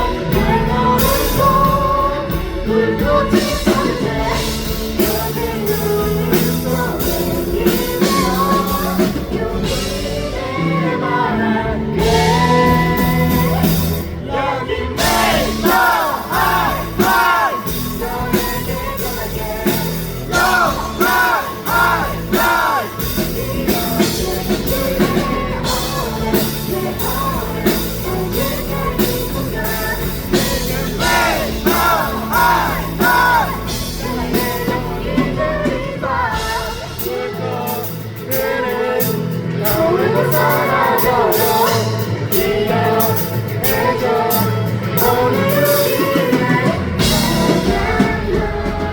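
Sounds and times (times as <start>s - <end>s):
live rock band: 0.0s - 48.9s
woman singing lead vocals: 0.0s - 48.9s.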